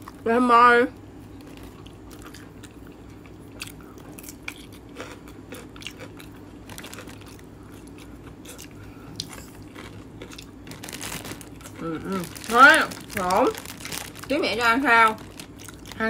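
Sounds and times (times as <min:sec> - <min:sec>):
steady low hum: 0:00.0 - 0:16.0
person chewing crusty bread: 0:01.1 - 0:14.4, 0:15.2 - 0:16.0.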